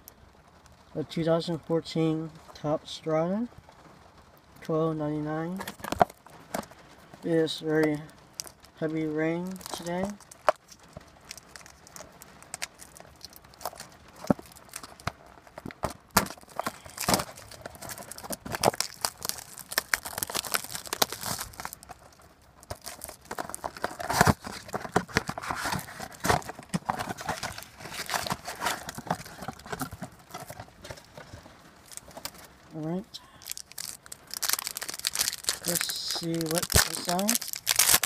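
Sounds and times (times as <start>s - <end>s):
plastic wrapping crinkling and tearing: 5.4s - 38.0s.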